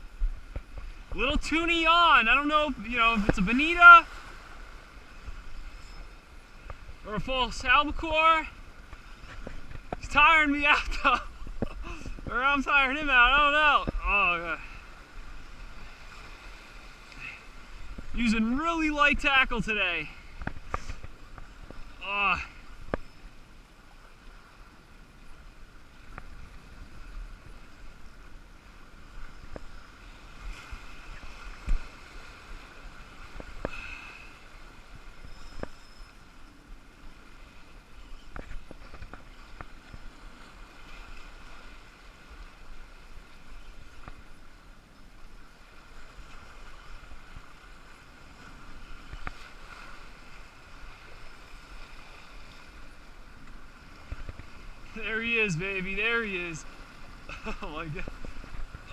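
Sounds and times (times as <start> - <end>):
water washing at shoreline: 0.0 - 58.9
wind: 0.0 - 58.9.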